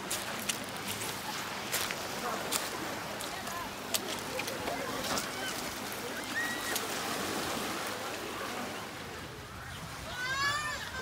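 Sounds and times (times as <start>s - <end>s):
surf washing on pebble beach: 0.0s - 9.4s.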